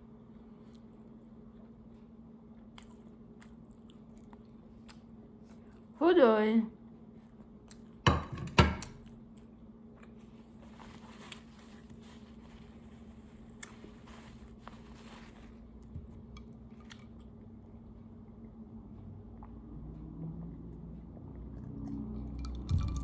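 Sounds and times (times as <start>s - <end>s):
steady low hum: 0.0s - 23.0s
eating noises at a table: 0.1s - 6.0s, 7.0s - 8.0s, 8.8s - 18.4s, 19.0s - 23.0s.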